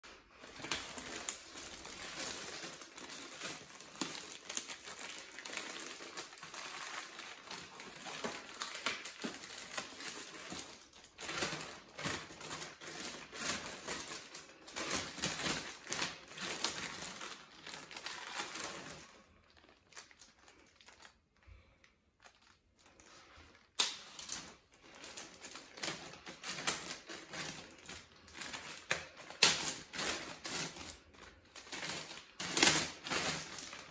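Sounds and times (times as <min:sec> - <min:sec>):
plastic bag crinkling: 0:00.0 - 0:33.9.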